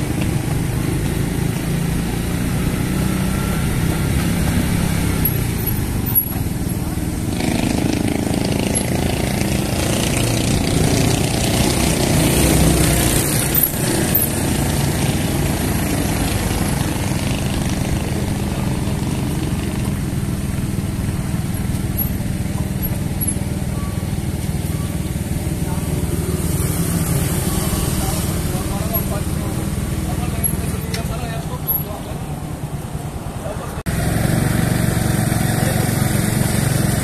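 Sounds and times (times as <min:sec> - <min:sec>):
motorcycle engines running: 0:00.0 - 0:37.0.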